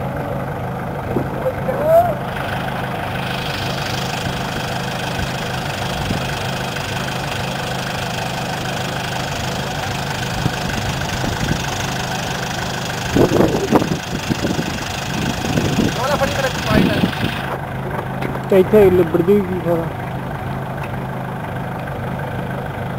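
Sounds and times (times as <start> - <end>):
jeep engine running: 0.0 - 22.9.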